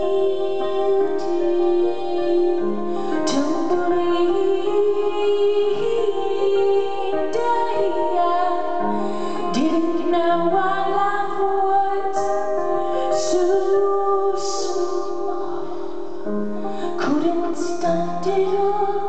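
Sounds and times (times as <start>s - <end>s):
piano chords: 0.0s - 19.0s
woman singing: 0.0s - 19.0s.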